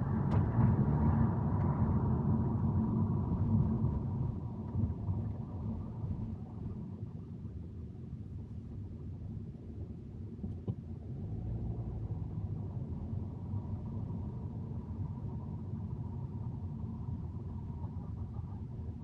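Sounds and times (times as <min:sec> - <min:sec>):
car interior road rumble: 0:00.0 - 0:07.6, 0:08.3 - 0:19.0.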